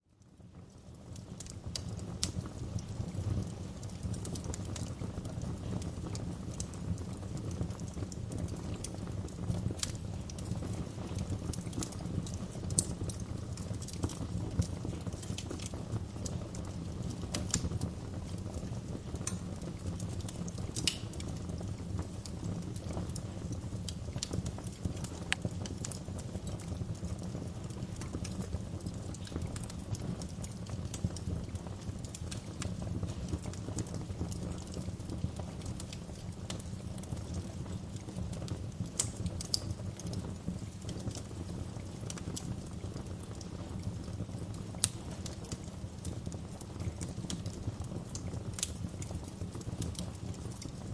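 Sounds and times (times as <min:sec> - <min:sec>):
fire flames rumbling: 0:00.0 - 0:50.9
fire crackling and popping: 0:00.1 - 0:50.9.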